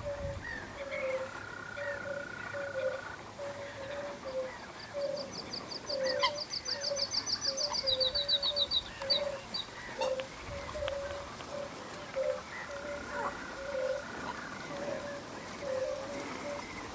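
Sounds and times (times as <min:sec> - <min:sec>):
songbird trilling: 0:00.1 - 0:14.1.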